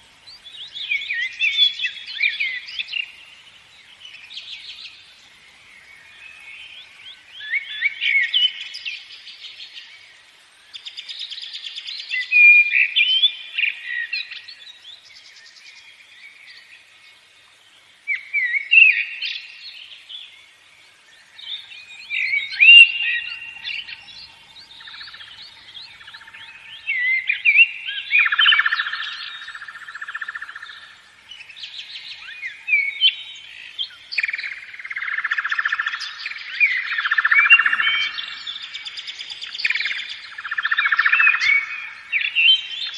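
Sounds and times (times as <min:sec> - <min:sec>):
songbirds chirping and singing: 0:00.0 - 0:42.9.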